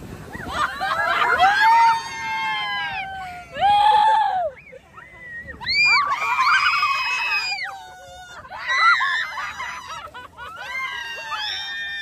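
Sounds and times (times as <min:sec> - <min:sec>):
people screaming: 0:00.3 - 0:12.0.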